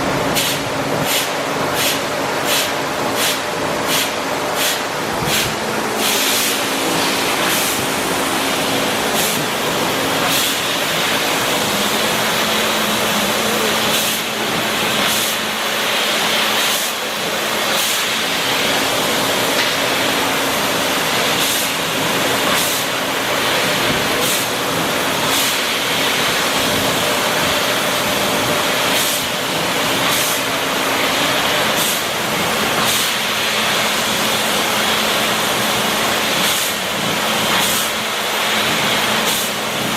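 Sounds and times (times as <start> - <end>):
machine hum: 0.0 - 39.9
laser cutter hiss: 0.3 - 39.9.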